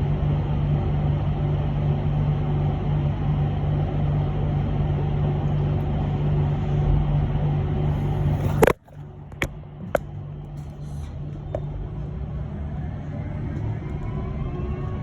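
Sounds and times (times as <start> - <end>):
electric bus cabin hum: 0.0 - 15.0.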